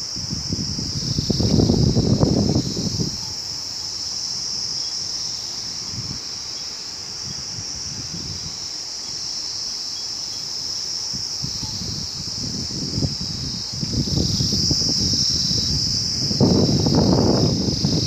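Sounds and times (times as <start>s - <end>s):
wind on microphone: 0.0s - 6.4s, 7.0s - 8.7s, 11.0s - 18.0s
insect chorus drone: 0.0s - 18.0s.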